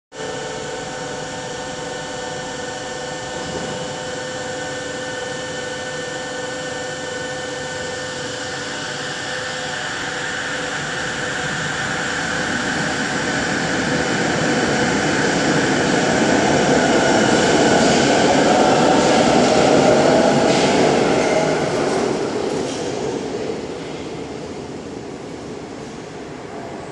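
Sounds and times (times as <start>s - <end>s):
train electric whine: 0.1s - 26.9s
train running noise: 0.1s - 26.9s.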